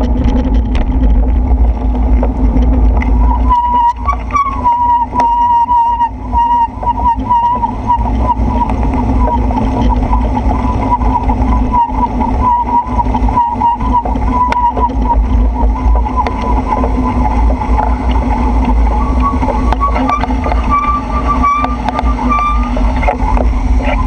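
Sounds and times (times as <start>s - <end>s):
tyre and traffic noise: 0.0s - 24.0s
wavering whine: 0.0s - 24.0s
wind rumble on microphone: 0.0s - 24.0s.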